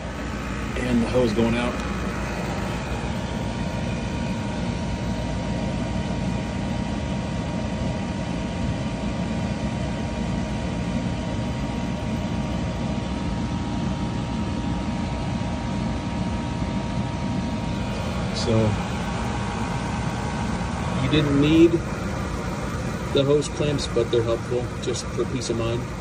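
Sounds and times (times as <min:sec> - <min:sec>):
air conditioner hum: 0:00.0 - 0:26.0
faint whine: 0:00.0 - 0:26.0.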